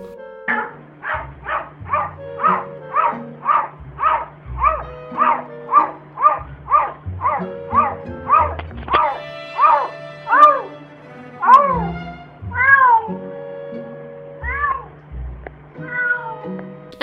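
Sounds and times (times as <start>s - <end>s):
cat barking: 0.5s - 13.2s, 14.4s - 14.9s, 15.8s - 16.5s.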